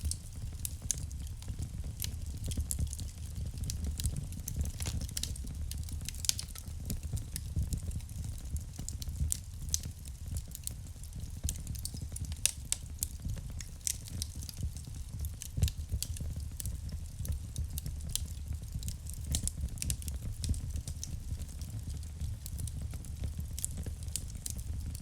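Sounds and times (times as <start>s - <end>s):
fire crackles and pops: 0.0s - 25.0s
low rumble of flames: 0.0s - 25.0s.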